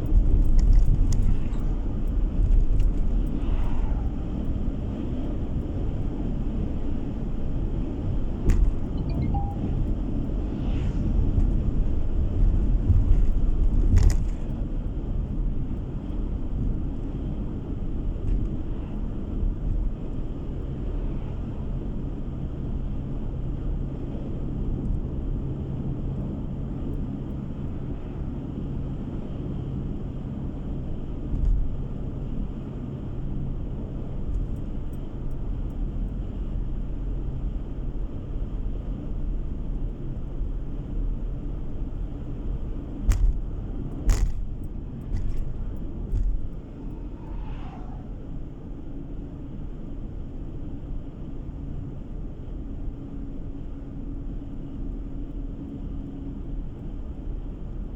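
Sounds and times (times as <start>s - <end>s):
car road and engine rumble: 0.0s - 57.9s.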